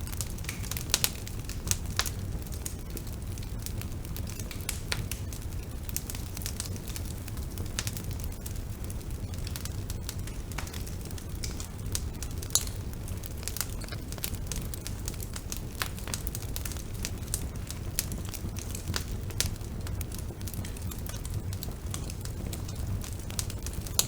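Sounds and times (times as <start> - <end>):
bonfire flames rumbling: 0.0 - 24.0
burning wood crackling and popping: 0.0 - 24.0.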